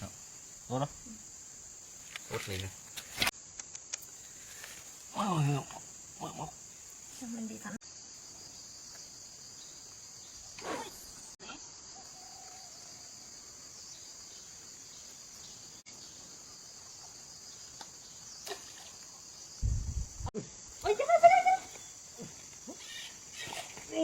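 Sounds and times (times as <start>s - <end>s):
chorus of insects: 0.0s - 24.0s.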